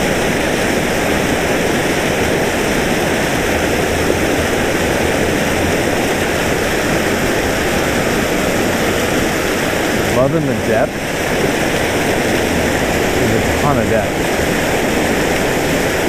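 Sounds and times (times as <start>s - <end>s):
water rushing from culvert: 0.0s - 16.0s.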